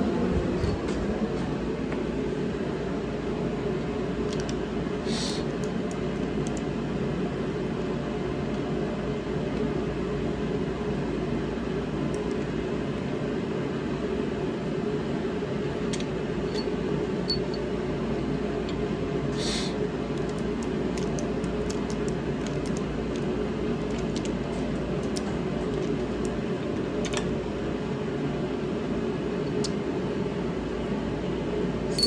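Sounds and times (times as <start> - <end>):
fan-like hum: 0.0 - 32.0.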